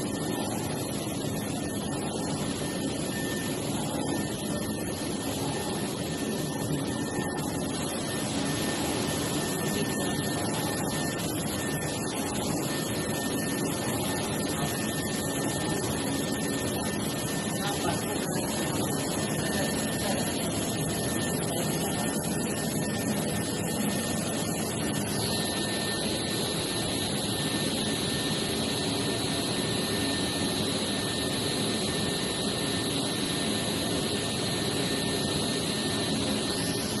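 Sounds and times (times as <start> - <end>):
high steady whine: 0.0 - 37.0
workshop machinery whirring drone: 0.0 - 37.0.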